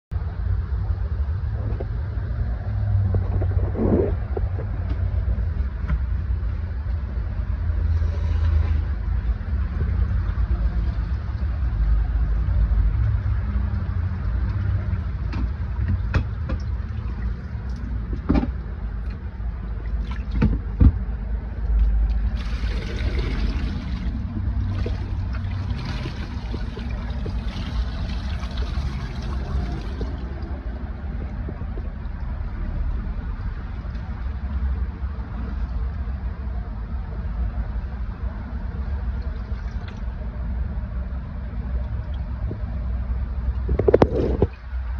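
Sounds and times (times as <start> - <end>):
low machinery rumble: 0.1 - 44.9.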